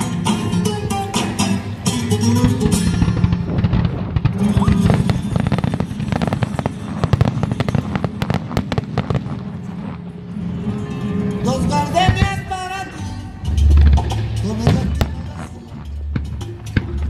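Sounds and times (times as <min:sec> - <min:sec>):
fireworks bangs and crackles: 0:00.0 - 0:10.8, 0:11.5 - 0:12.7, 0:13.7 - 0:17.0
music: 0:00.0 - 0:17.0.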